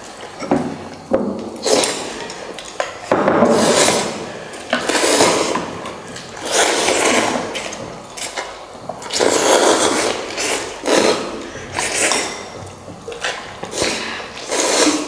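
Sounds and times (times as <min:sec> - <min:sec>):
people slurping noodles: 0:00.3 - 0:02.7, 0:03.4 - 0:15.0.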